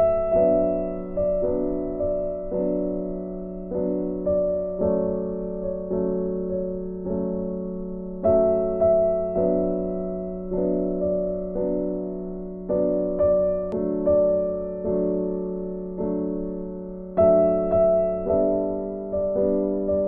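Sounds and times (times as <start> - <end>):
gentle keyboard notes: 0.0 - 20.0.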